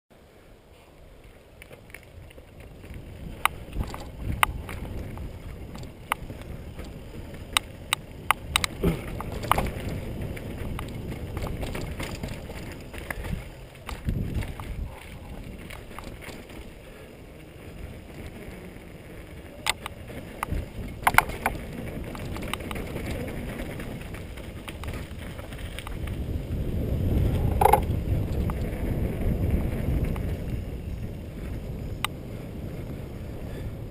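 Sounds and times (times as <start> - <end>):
wind: 0.1 - 33.9
bike clicks and rattles: 1.0 - 33.9
tyres rumbling on dirt: 1.7 - 33.9.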